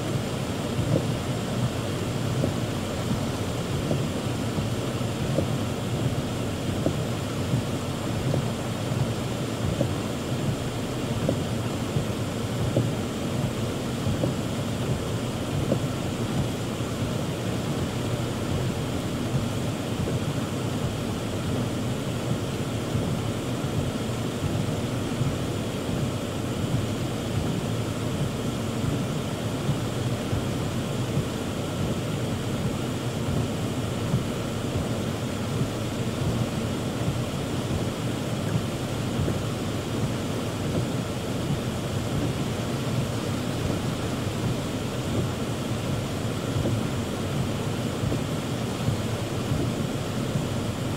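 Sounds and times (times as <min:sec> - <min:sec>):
heavy rain on car roof: 0:00.0 - 0:50.9.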